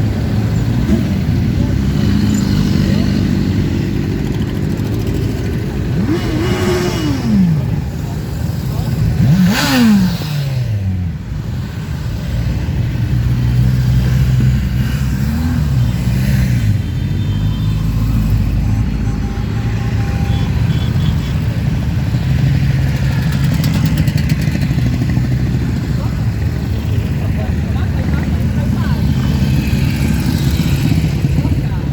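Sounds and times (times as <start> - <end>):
motorcycle engine revving: 0.0 - 31.9
motorcycles riding past: 0.0 - 31.9.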